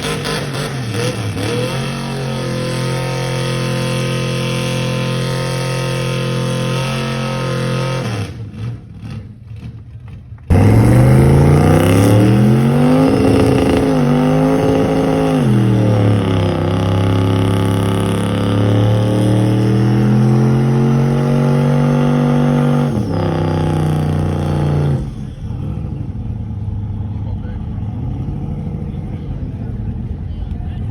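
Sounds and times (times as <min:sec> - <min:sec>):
truck engine revving: 0:00.0 - 0:30.3.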